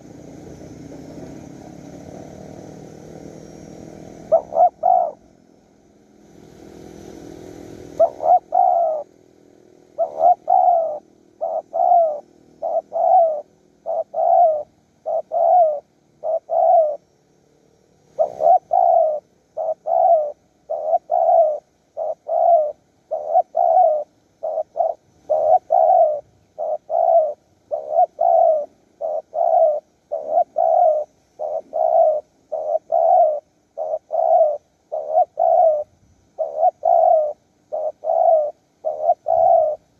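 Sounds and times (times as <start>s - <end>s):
dove cooing: 0.0s - 1.5s, 2.1s - 5.3s, 6.8s - 17.1s, 18.1s - 39.9s.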